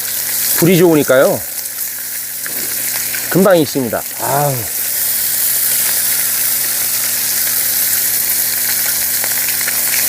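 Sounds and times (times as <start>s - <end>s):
meat sizzling on hot steel: 0.0s - 10.0s.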